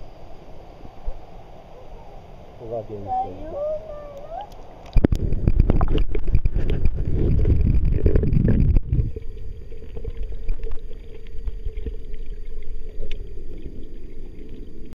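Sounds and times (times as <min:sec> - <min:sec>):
faint hum: 0:00.0 - 0:14.9
muffled underwater drone: 0:00.0 - 0:14.9
turbulent water sloshing: 0:00.0 - 0:14.9.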